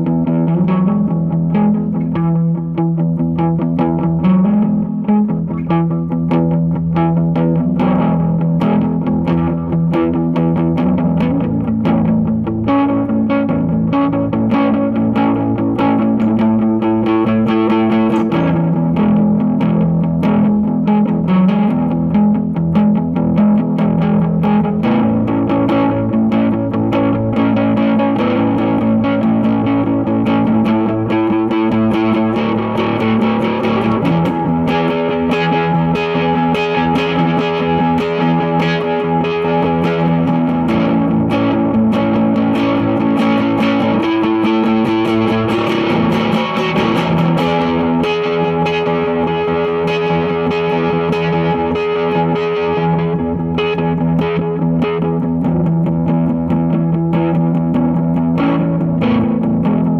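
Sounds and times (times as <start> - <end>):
electric guitar picked notes: 0.0 - 59.9.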